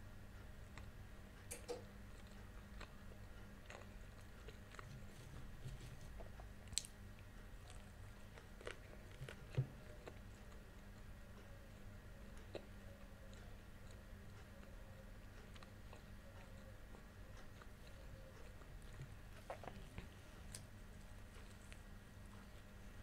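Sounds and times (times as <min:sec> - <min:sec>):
chewing and biting flatbread: 0:02.0 - 0:23.0.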